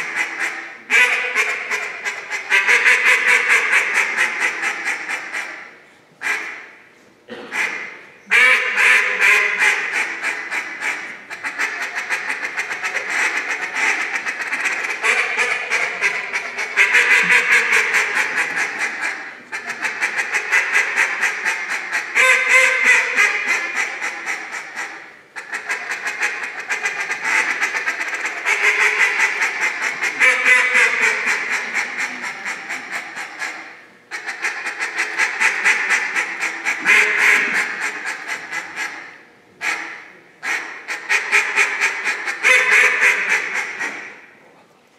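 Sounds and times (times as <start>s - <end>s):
duck call quacking: 0.0s - 44.3s.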